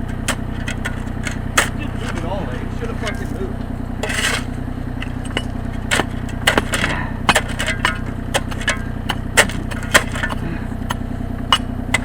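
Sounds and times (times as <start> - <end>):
excavator engine running: 0.0 - 12.0
sharp knocks and clanks: 0.0 - 12.0.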